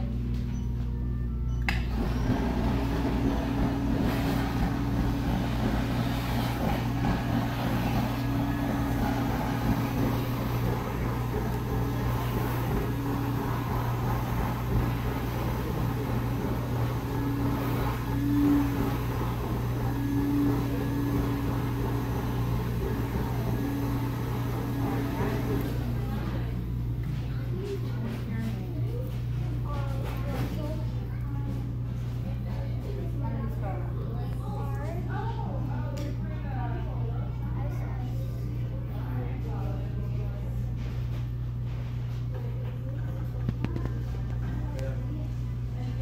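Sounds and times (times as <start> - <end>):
stuffing machine blower humming: 0.0 - 46.0.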